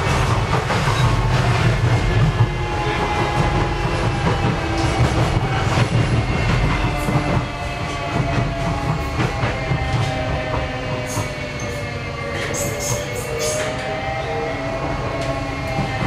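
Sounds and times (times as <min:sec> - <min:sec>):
train rumble and whine: 0:00.0 - 0:16.0.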